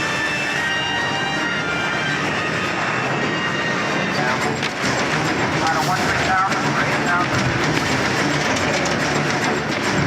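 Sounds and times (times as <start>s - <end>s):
film music: 0.0s - 10.0s
jet airliner roar: 0.0s - 10.0s.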